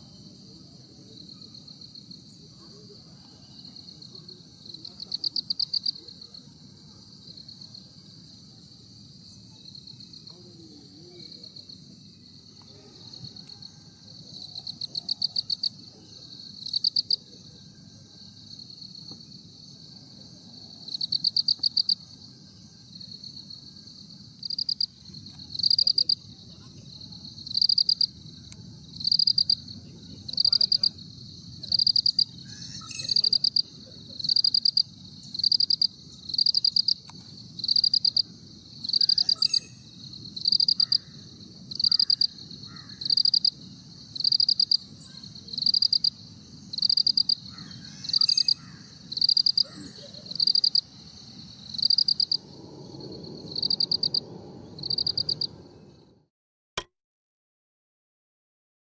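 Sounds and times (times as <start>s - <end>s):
cricket chirping: 0.0s - 56.3s.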